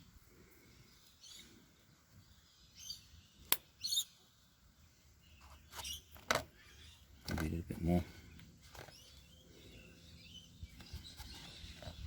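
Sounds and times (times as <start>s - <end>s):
faint bird chirps: 0.0s - 7.3s, 8.0s - 12.0s.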